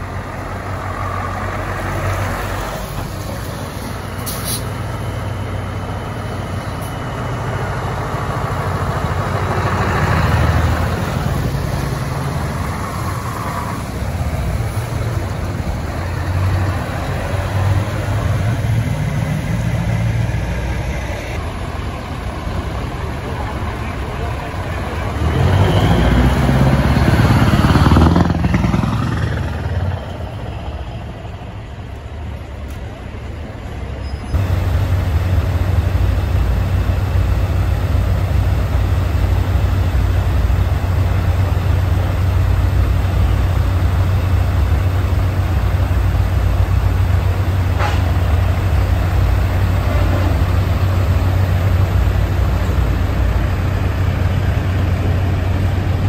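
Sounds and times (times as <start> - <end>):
loud truck engine: 0.0 - 56.0
truck engine low drone: 0.0 - 56.0.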